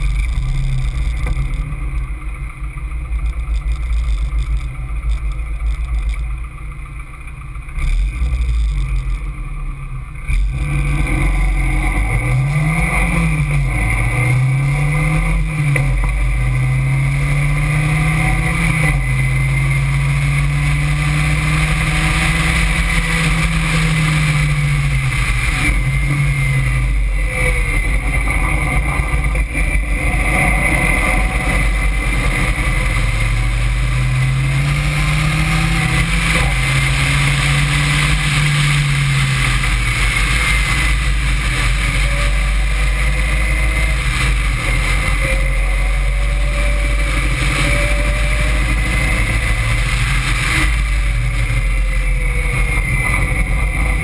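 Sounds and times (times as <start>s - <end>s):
sports car engine revving: 0.0s - 54.0s.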